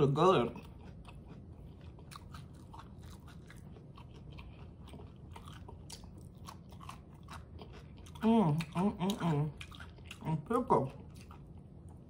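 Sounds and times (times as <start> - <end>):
chewing crunchy food: 0.0 - 12.0.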